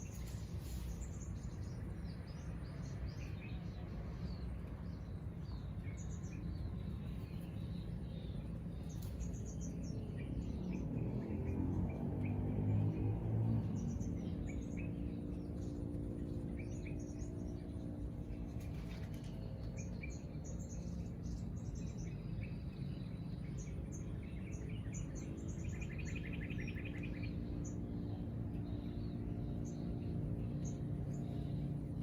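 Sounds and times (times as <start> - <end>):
low background hum: 0.0 - 32.0
small birds chirping: 0.0 - 32.0.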